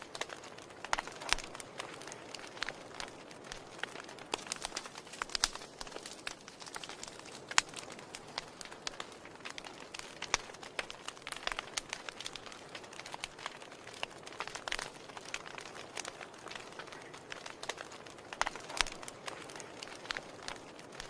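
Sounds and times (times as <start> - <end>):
soft hiss of flames: 0.0 - 21.0
wood fire crackling: 0.0 - 21.0.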